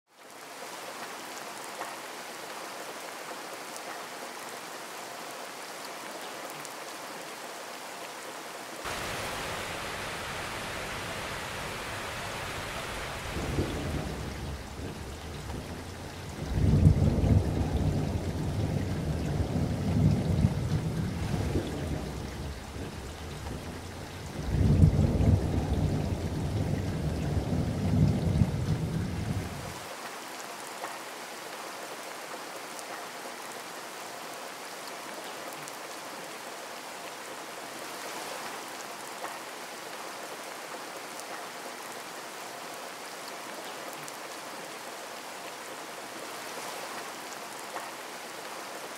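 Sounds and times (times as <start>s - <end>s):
rushing water: 0.1s - 48.9s.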